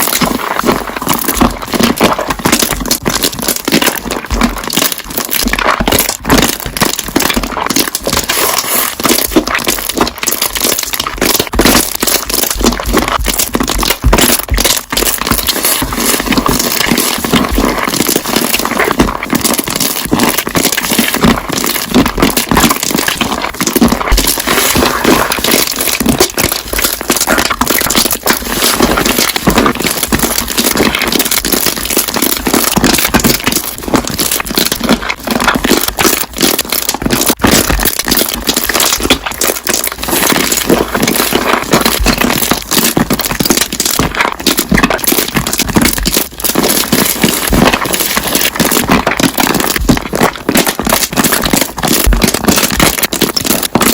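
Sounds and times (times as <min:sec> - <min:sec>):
slime bubbles popping: 0:00.0 - 0:53.9.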